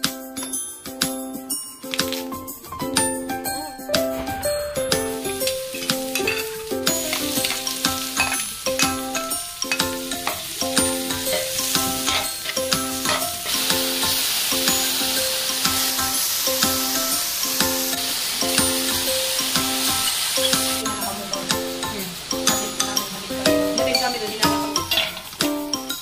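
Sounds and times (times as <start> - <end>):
background music: 0.0 - 26.0
food sizzling in a wok: 0.3 - 26.0.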